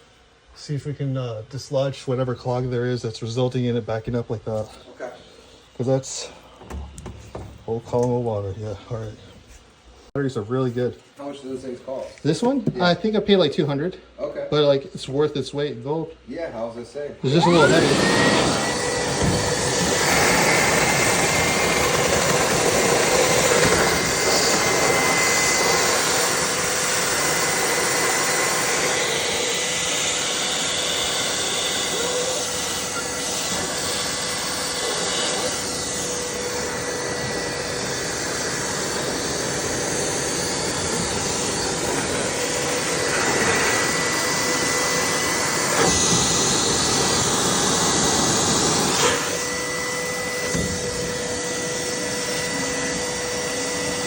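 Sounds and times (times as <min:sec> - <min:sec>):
wet vac motor whine: 0:02.3 - 0:09.4, 0:17.2 - 0:54.0.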